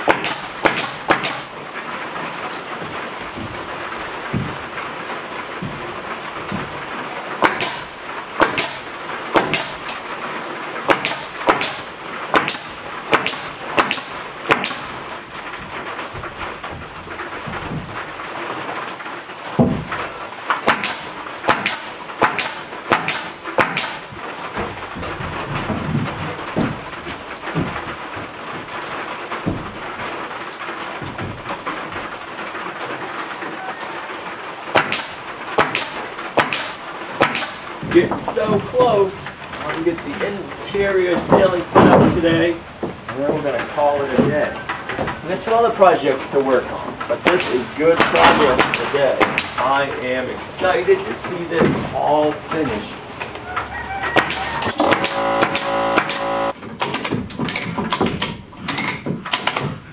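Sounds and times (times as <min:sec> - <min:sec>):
sharp ticks and knocks: 0:00.0 - 0:01.6, 0:02.5 - 0:10.0, 0:10.8 - 0:32.3, 0:34.7 - 0:45.3, 0:47.0 - 0:50.1, 0:54.2 - 0:59.8
rain on a metal roof: 0:00.0 - 0:59.9.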